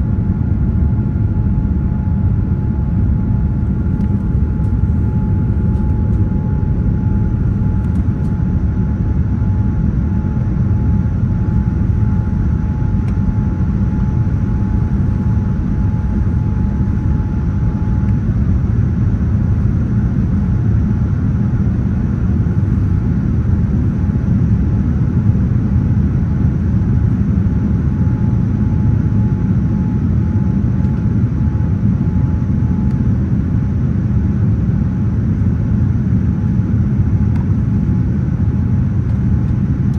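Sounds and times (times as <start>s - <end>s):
faint steady whine: 0.0s - 39.9s
jet cabin engine rumble: 0.0s - 39.9s.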